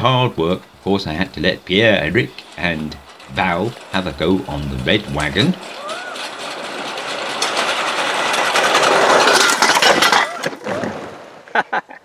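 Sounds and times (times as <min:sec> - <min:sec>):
wagon wheels clattering on track: 0:00.0 - 0:11.7.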